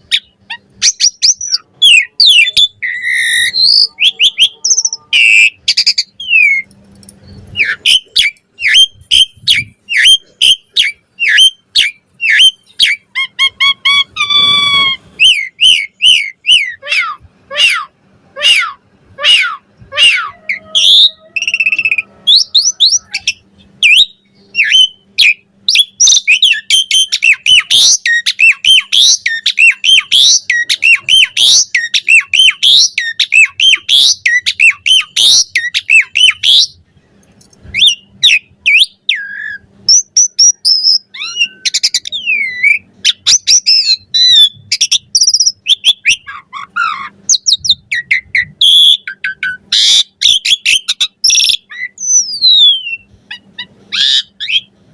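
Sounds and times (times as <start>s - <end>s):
starling singing: 0.0s - 36.8s, 37.8s - 54.8s.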